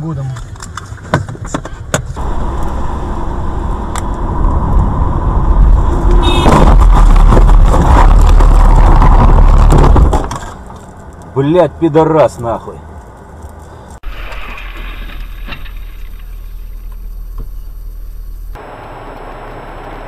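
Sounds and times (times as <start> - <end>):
car rumbling and scraping: 0.0 - 20.0.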